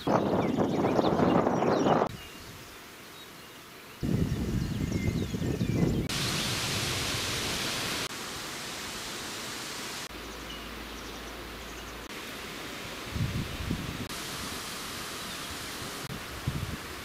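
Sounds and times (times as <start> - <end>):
wind in foliage: 0.0 - 17.0.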